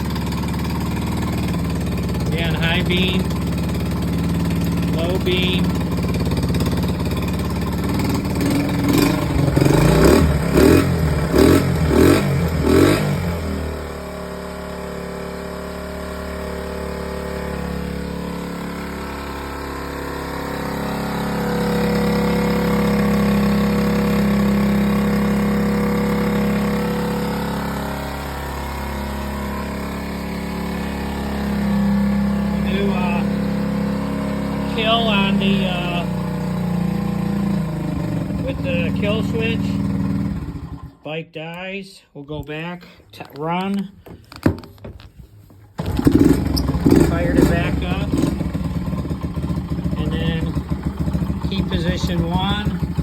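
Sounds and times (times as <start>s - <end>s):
engine throttle blips: 0.0s - 41.0s, 45.8s - 53.0s
motorcycle engine idling: 0.0s - 41.0s, 45.8s - 53.0s.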